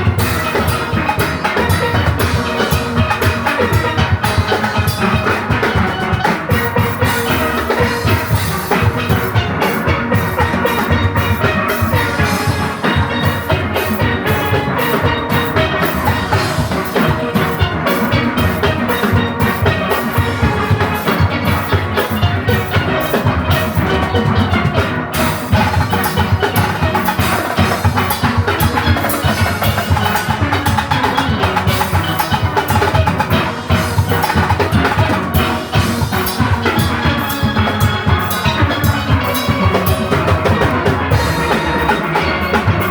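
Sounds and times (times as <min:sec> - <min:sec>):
drum kit and percussion: 0:00.0 - 0:42.9
steelpans playing melody: 0:00.0 - 0:42.9.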